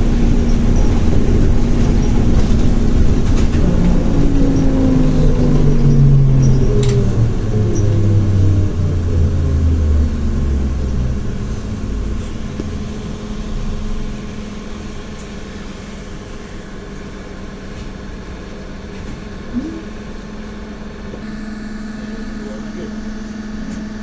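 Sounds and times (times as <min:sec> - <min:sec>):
trolleybus motor whine: 0:00.0 - 0:24.0.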